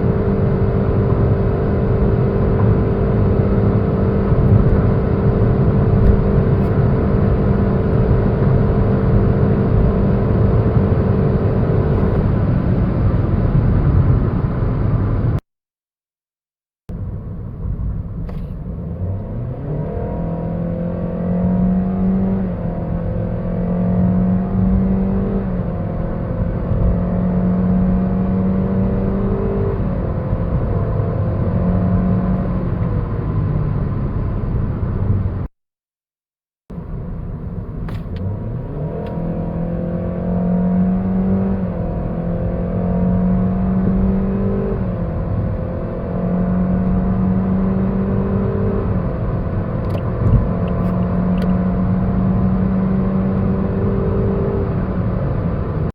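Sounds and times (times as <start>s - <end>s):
car engine accelerating: 0.0s - 15.4s, 16.9s - 35.5s, 36.7s - 55.9s
road noise: 0.0s - 15.4s, 16.9s - 35.5s, 36.7s - 55.9s.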